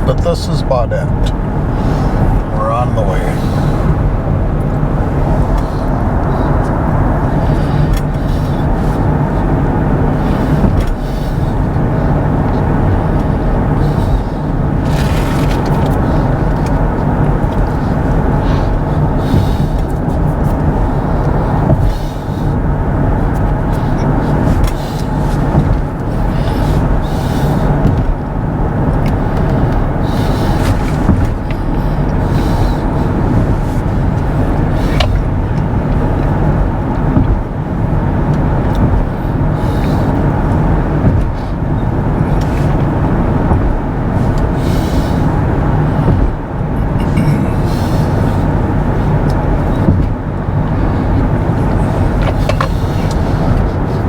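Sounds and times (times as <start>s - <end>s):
road and tyre noise: 0.0s - 54.0s
wind rush: 0.0s - 54.0s.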